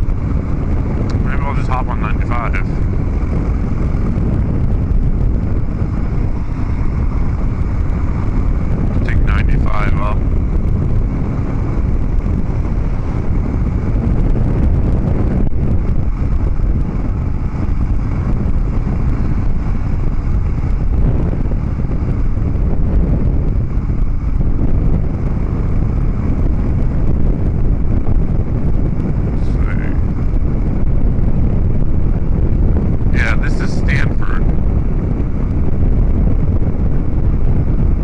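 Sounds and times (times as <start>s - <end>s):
motorcycle engine running: 0.0s - 38.0s
wind buffeting microphone: 0.0s - 38.0s.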